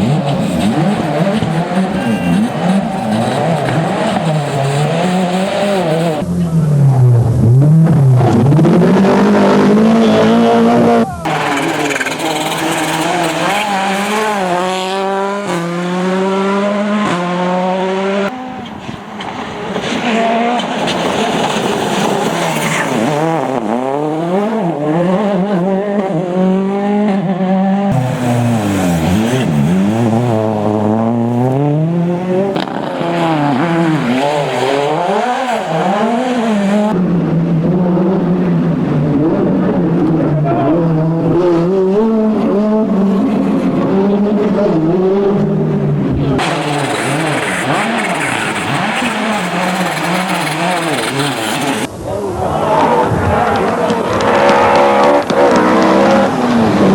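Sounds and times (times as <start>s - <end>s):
rally car engine revving: 0.0s - 56.9s.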